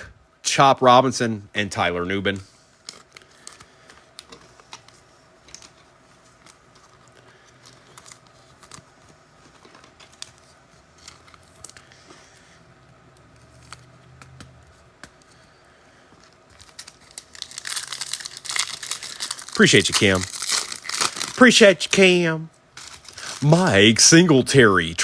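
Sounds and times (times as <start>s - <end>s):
low steady hum: 0.0s - 25.0s
trading cards rustling: 2.3s - 22.1s, 22.7s - 24.3s.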